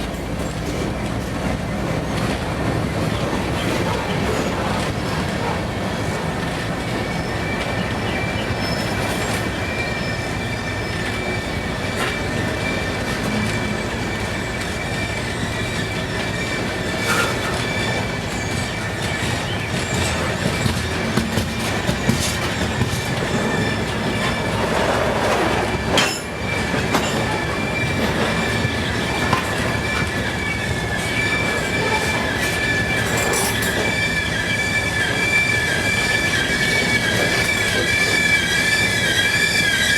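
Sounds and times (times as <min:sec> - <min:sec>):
train rumble: 0:00.0 - 0:39.9
train wheels squealing: 0:00.0 - 0:39.9.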